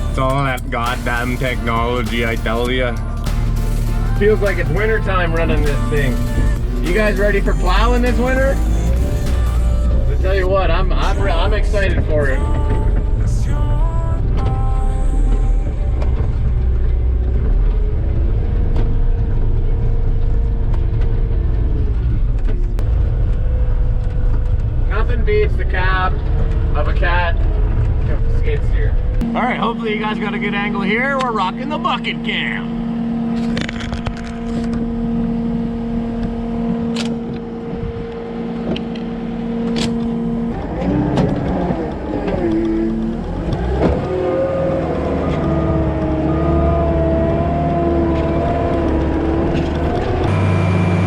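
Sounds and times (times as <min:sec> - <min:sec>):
diesel engine rumbling: 0:00.0 - 0:51.0
hydraulic whine: 0:00.0 - 0:51.0.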